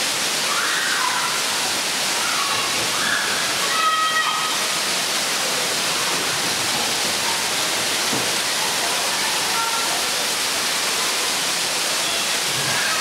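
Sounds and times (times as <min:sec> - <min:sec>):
water splashing from fountain jets: 0:00.0 - 0:13.0.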